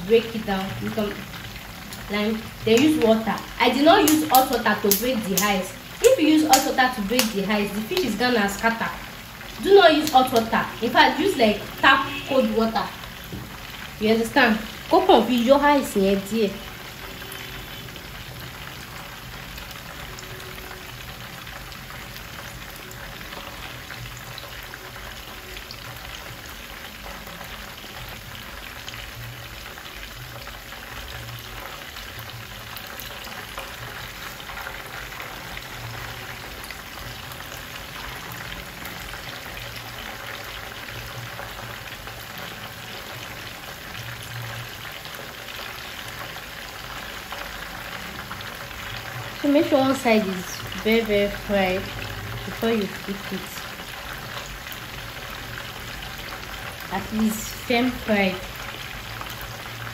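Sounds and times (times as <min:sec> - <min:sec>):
fish sizzling in frying pan: 0:00.0 - 0:59.9
oil bubbling: 0:00.0 - 0:59.9.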